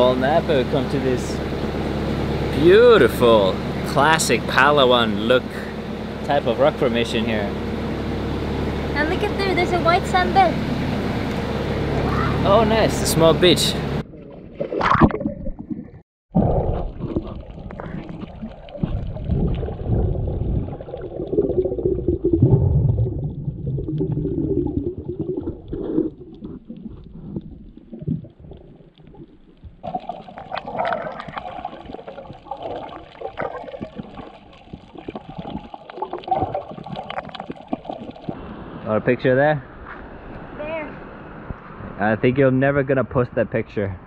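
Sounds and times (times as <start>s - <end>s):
underwater rushing and gurgling: 0.0s - 41.9s.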